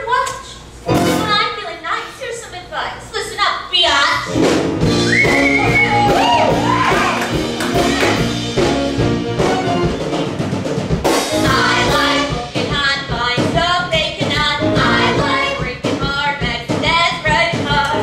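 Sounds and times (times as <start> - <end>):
bass: 0.0 - 2.2, 2.9 - 18.0
drum kit beat: 0.8 - 1.5, 4.2 - 18.0.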